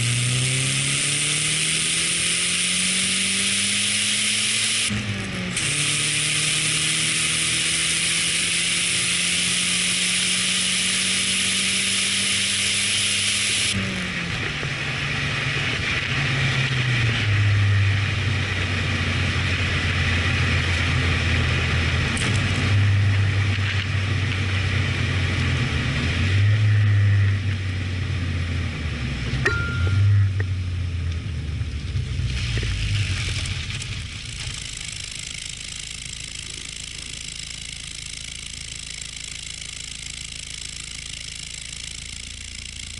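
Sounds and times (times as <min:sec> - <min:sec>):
turbocharged car engine revving: 0:00.0 - 0:42.9.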